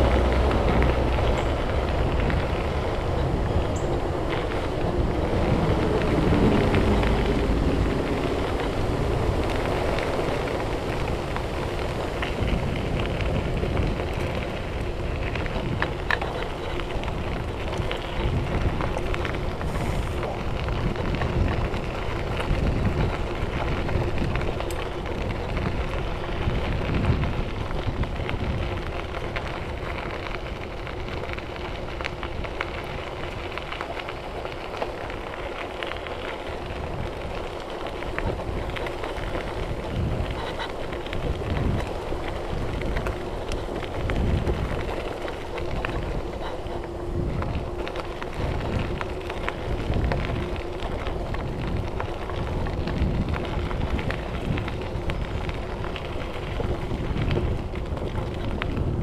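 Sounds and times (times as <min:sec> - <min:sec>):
bike rattles and knocks: 0:00.0 - 0:59.0
tyres crackling on gravel: 0:00.0 - 0:59.0.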